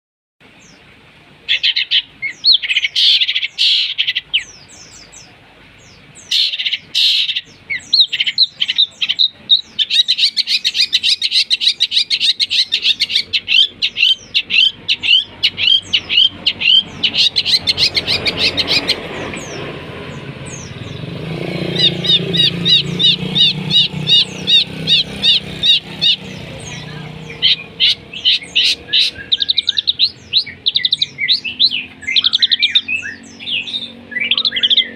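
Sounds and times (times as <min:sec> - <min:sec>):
bird chirping: 0:00.4 - 0:00.9, 0:01.5 - 0:34.9
rough bird chatter: 0:00.5 - 0:34.9.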